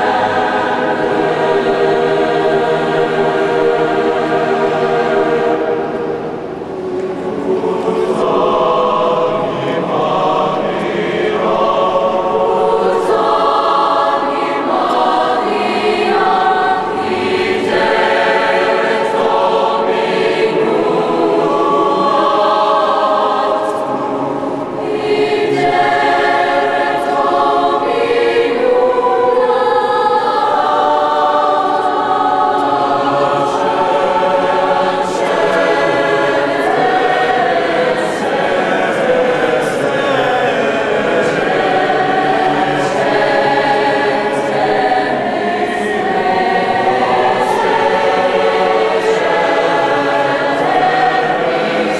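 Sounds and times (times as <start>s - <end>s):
mixed choir singing long chords: 0.0s - 51.9s.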